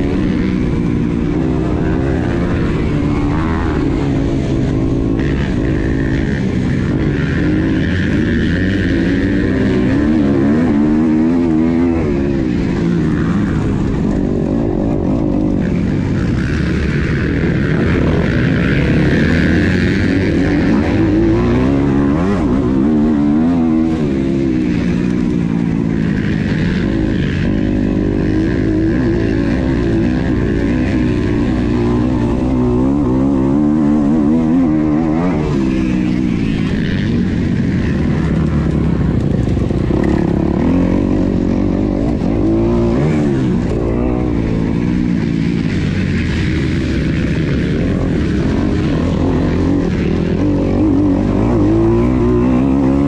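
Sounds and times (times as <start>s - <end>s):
motocross bike engine racing: 0.0s - 53.0s.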